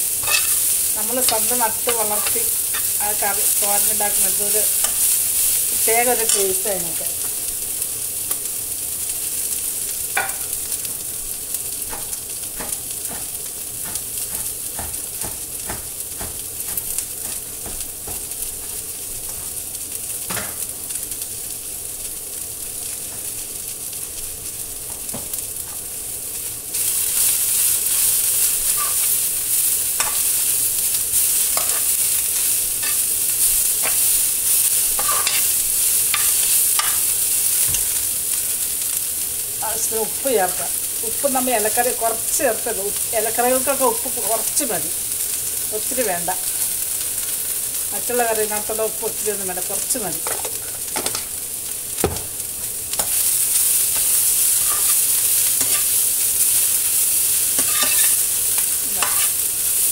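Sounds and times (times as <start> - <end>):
greens sizzling in frying pan: 0.0 - 59.9.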